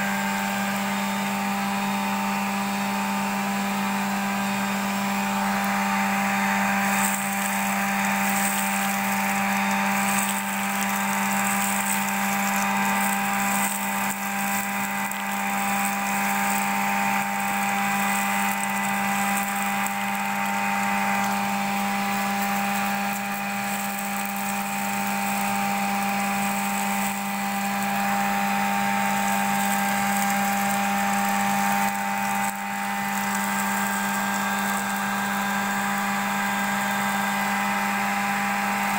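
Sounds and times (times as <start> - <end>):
vacuum cleaner motor humming: 0.0 - 38.9
air rushing through hose: 4.8 - 38.9.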